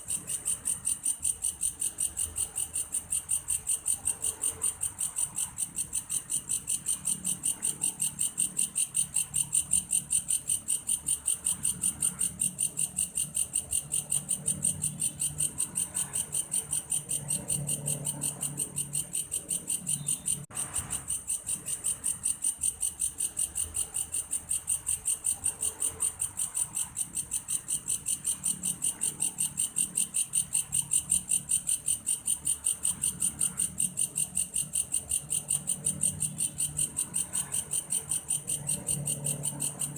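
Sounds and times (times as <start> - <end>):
insect pulsing chirps: 0.0 - 39.9.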